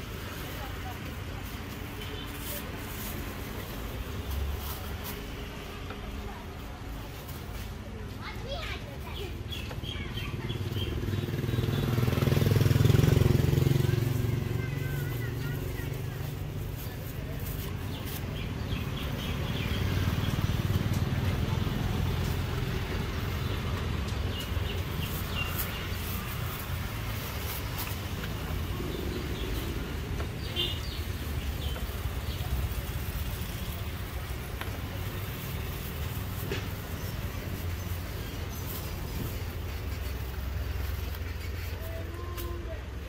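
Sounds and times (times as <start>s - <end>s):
street rumble: 0.0s - 43.0s.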